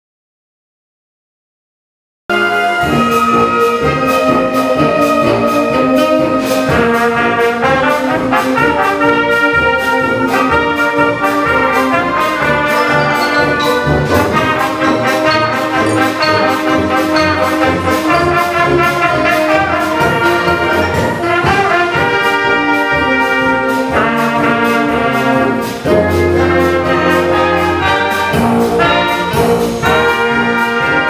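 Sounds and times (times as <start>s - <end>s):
wind band playing: 2.3s - 31.0s.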